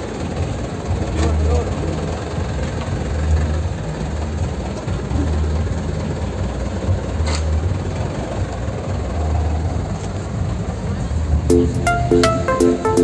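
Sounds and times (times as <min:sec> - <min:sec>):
truck engine rumbling at low revs: 0:00.0 - 0:13.0.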